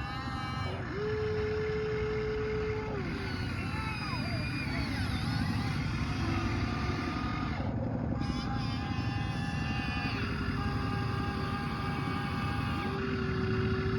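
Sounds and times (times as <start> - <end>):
small electric motors whining: 0.0 - 13.9.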